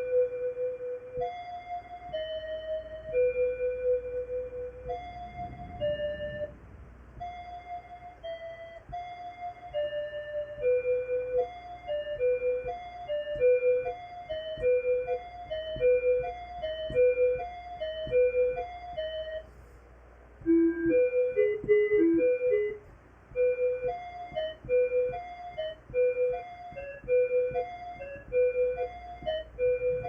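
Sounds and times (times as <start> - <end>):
looped electronic keyboard melody: 0.0 - 30.0.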